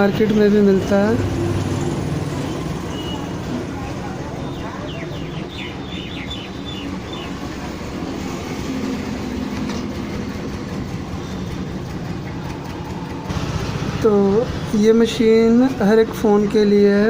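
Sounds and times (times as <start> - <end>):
engine hum: 0.0 - 17.0
vehicle noise rumble: 0.0 - 17.0.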